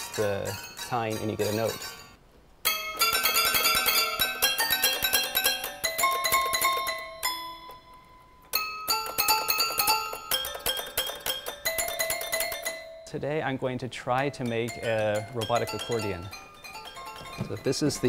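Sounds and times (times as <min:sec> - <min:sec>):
toy piano bell-like tune: 0:00.0 - 0:13.2, 0:14.3 - 0:18.0.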